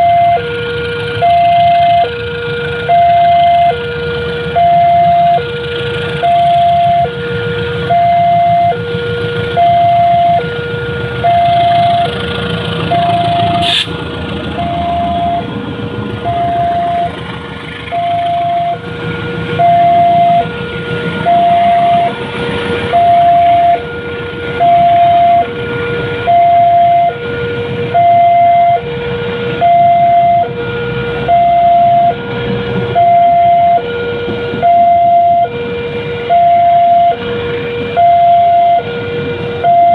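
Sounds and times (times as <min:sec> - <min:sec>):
two-tone crossing alarm: 0:00.0 - 0:13.9, 0:14.5 - 0:39.9
low rumble: 0:00.0 - 0:39.8.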